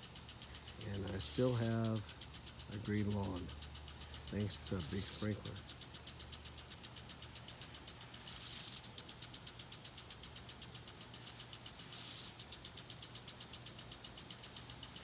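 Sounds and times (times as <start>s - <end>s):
hiss of water spray: 0.0s - 15.0s
impact sprinkler ticking: 0.0s - 15.0s.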